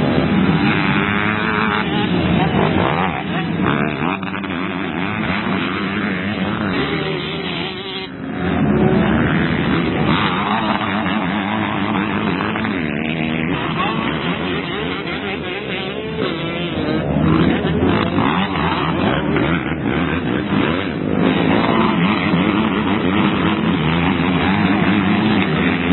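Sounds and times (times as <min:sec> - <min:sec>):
motocross bikes revving: 0:00.0 - 0:25.9.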